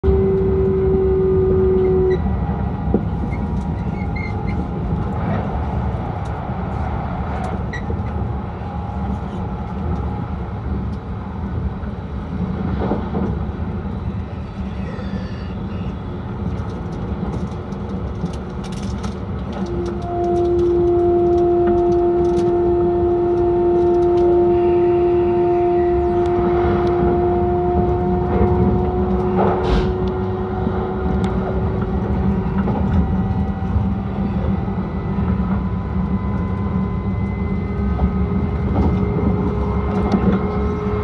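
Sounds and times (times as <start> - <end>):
train wheels rumbling: 0.0 - 41.0.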